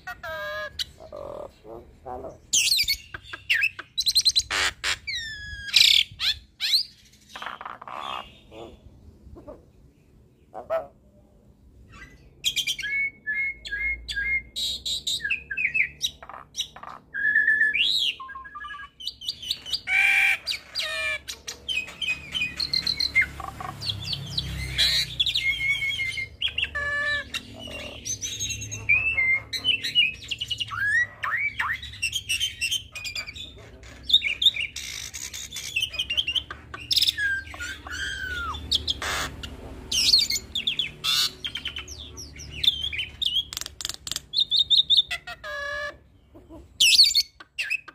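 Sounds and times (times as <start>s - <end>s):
starling singing: 0.0s - 11.0s, 11.9s - 47.9s.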